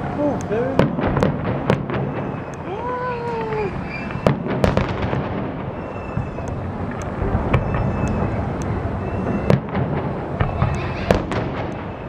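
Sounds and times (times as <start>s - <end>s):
distant firework rumble: 0.0s - 12.0s
firework bangs: 0.0s - 12.0s.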